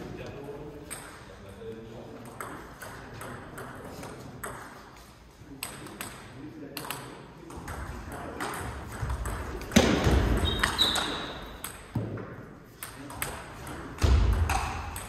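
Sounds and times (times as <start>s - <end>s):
voices in a hall: 0.0s - 15.0s.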